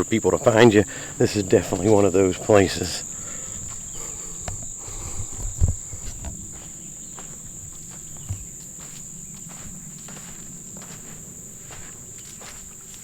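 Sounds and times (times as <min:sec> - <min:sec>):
footsteps thumping: 0:00.0 - 0:13.0
insects droning: 0:00.0 - 0:13.0.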